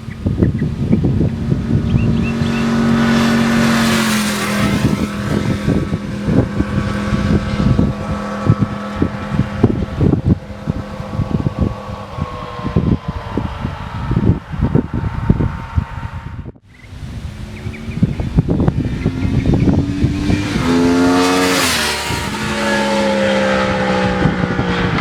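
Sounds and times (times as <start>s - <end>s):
motorcycle passing at speed: 0.0s - 25.0s
wind buffeting microphone: 0.0s - 25.0s.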